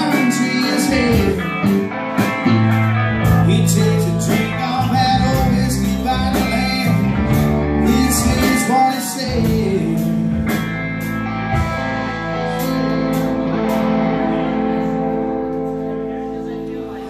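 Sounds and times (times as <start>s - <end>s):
electric guitars: 0.0s - 17.0s.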